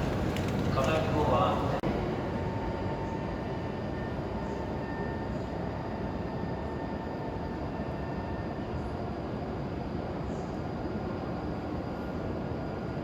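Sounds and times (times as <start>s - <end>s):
train running with rumble: 0.0s - 13.0s.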